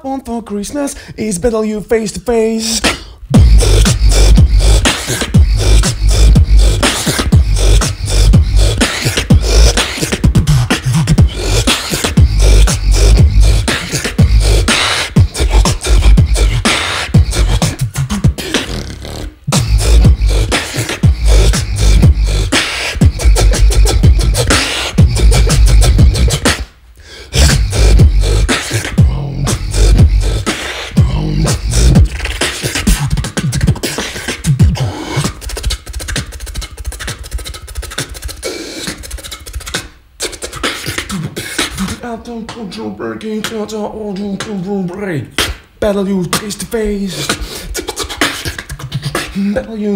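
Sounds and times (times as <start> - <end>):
beatboxing into a microphone: 0.0 - 49.9.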